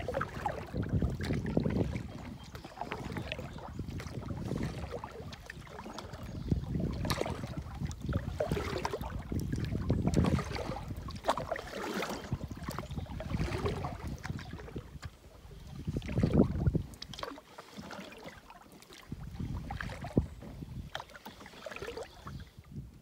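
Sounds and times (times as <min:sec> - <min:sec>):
water splashes and drips: 0:00.0 - 0:22.5
paddle strokes in water: 0:00.0 - 0:23.0.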